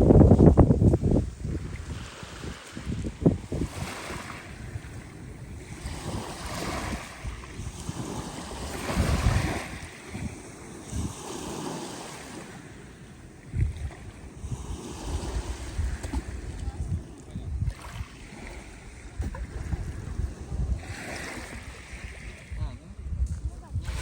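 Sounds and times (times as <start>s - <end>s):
surf washing onto shore: 0.0s - 22.7s
wind buffeting microphone: 0.0s - 24.0s.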